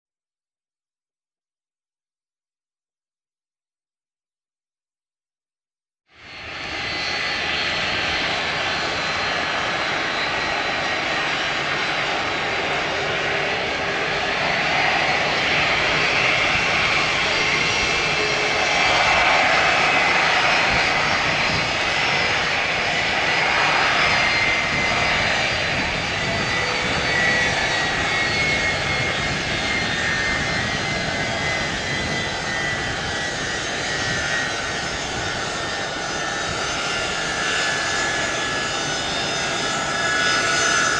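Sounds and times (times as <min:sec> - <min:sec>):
jet engines taxiing: 0:06.2 - 0:40.9.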